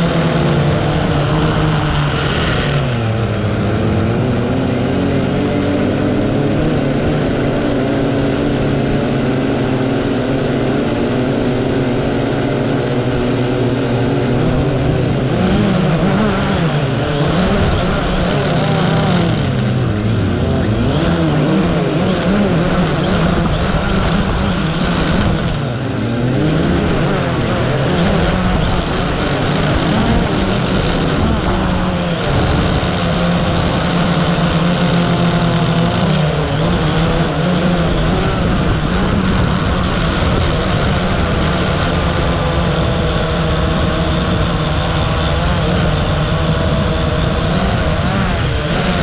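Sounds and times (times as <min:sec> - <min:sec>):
drone motors and propellers whining: 0:00.0 - 0:49.0.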